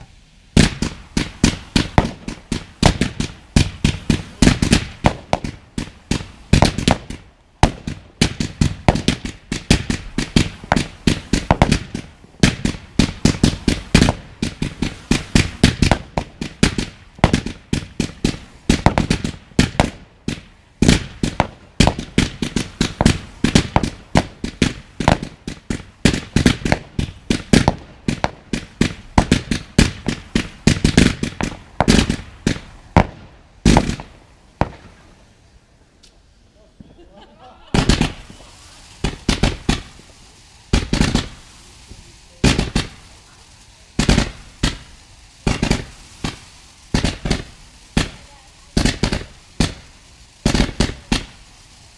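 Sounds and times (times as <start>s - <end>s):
fireworks launching and bursting: 0.0s - 51.9s.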